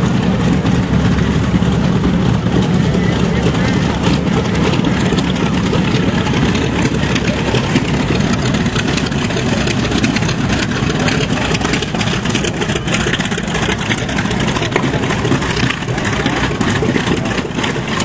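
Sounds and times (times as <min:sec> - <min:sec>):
piston aircraft engines droning: 0:00.0 - 0:18.0.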